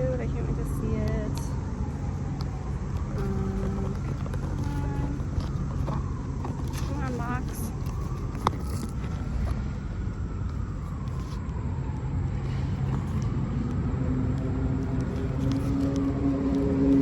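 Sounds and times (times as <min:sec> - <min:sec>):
motor vehicle engine rumble: 0:00.0 - 0:17.0
steady engine hum: 0:00.0 - 0:17.0.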